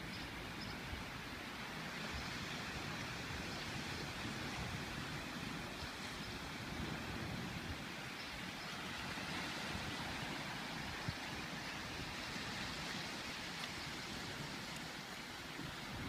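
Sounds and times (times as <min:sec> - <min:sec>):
small waves washing onto sand: 0:00.0 - 0:16.0
wind rumble on microphone: 0:00.0 - 0:16.0.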